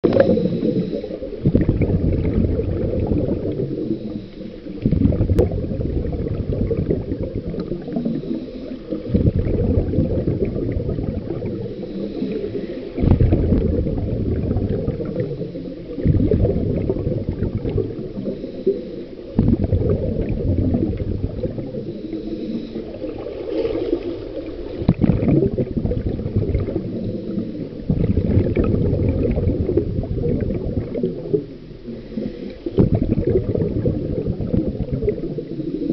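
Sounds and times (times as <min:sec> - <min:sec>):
exhaled bubbles gushing: 0:00.0 - 0:35.9
scuba regulator bubbling rumble: 0:00.0 - 0:35.9.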